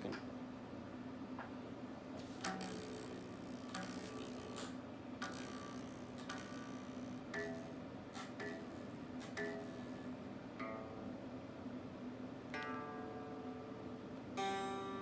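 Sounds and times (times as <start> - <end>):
guitar amplifier humming: 1.2 - 15.0.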